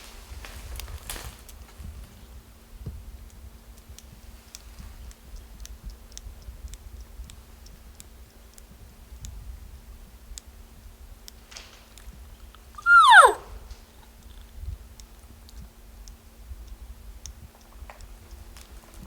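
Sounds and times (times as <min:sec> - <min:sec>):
faint irregular ticks and clicks: 0:00.7 - 0:12.6, 0:14.3 - 0:19.0.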